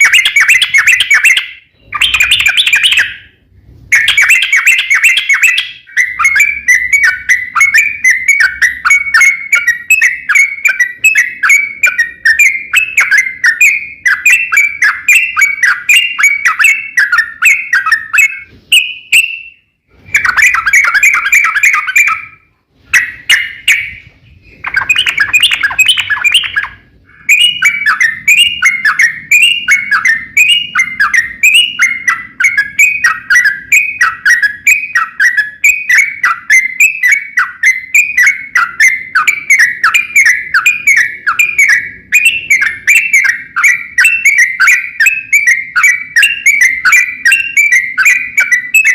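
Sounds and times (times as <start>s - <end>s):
bird singing chirps: 0.0s - 48.9s.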